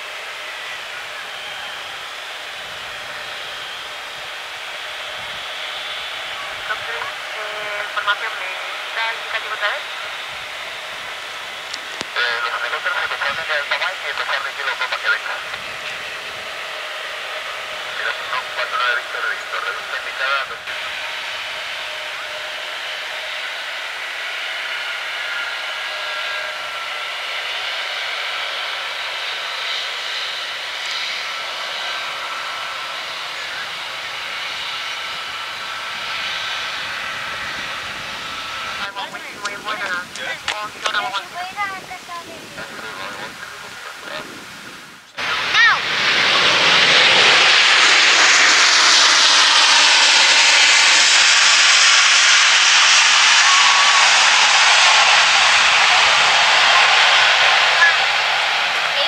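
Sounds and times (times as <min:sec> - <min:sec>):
jet engines whining at taxi power: 0:00.0 - 0:59.0.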